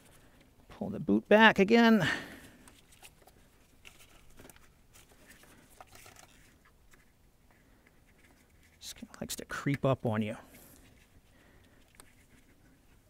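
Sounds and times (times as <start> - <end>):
gloved hands rustling: 0.0 - 0.7, 2.1 - 13.0.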